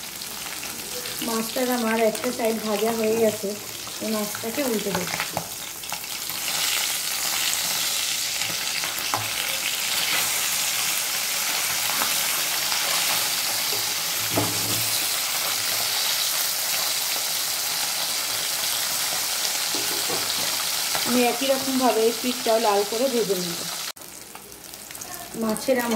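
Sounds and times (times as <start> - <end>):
fish sizzling in hot oil: 0.0 - 25.9.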